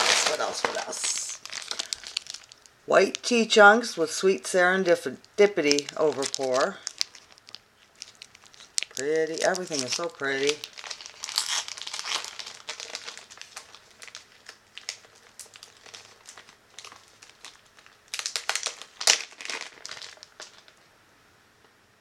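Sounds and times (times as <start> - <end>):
packaging crinkling: 0.0 - 3.6, 4.2 - 20.8.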